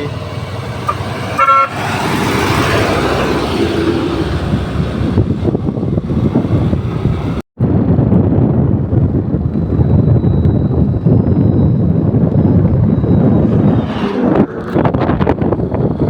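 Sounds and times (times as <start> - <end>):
road noise: 0.0 - 16.0
truck engine: 0.0 - 16.0
wind buffeting microphone: 0.0 - 16.0.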